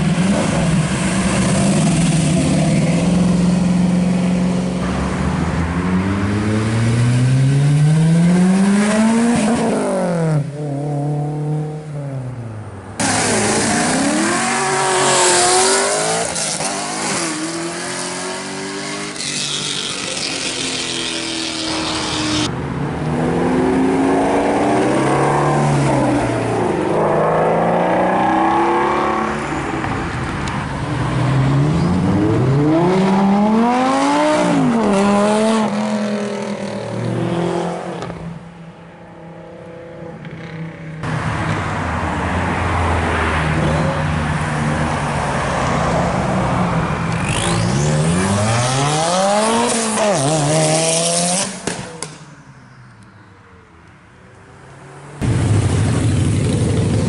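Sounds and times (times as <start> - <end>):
sports car engines accelerating: 0.0 - 52.2.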